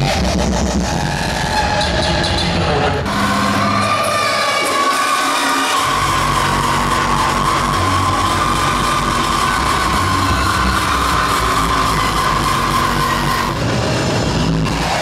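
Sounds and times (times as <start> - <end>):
loud hardcore dance music: 0.0 - 15.0.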